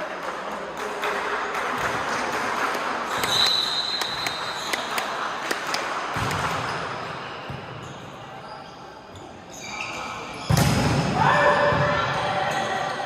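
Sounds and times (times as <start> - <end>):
crowd noise in sports hall: 0.0 - 13.0.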